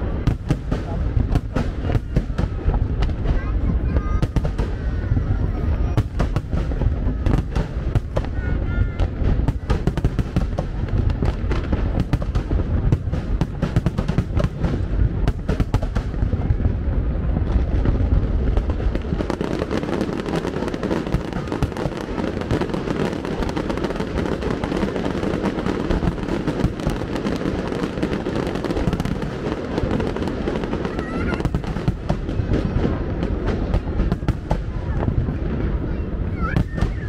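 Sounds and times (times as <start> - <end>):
fireworks crackle: 0.0 - 37.0
fireworks shells booming: 0.0 - 37.0.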